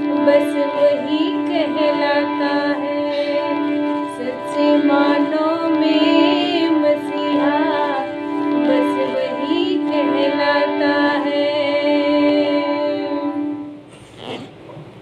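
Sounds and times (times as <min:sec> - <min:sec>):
woman singing wavering melody: 0:00.0 - 0:13.8
steady held drone: 0:00.0 - 0:14.7.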